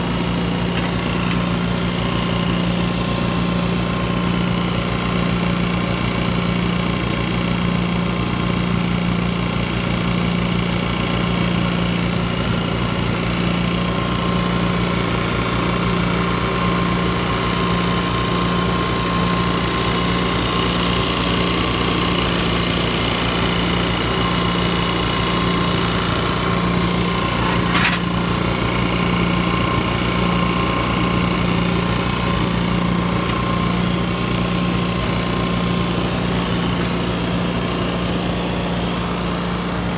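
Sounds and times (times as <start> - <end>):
tractor engine running steadily: 0.0 - 39.9.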